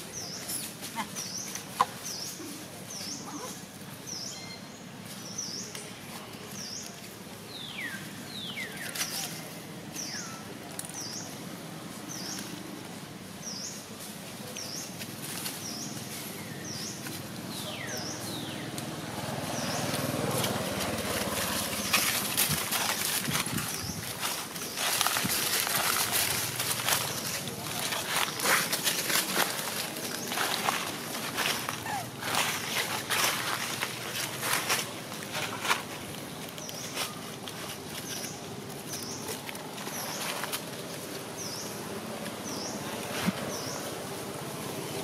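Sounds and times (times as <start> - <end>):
dry leaves rustling: 5.0 - 45.0.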